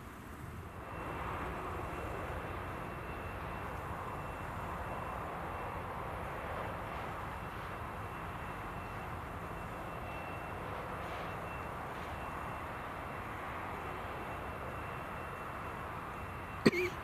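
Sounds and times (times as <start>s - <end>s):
faint steady high tone: 0.6s - 17.0s.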